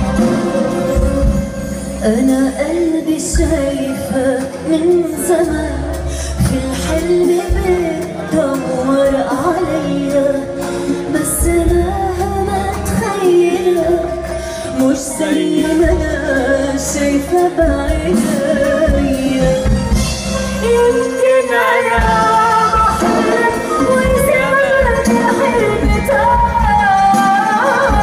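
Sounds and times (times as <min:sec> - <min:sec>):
band accompaniment: 0:00.0 - 0:28.0
woman singing into a microphone: 0:00.0 - 0:28.0.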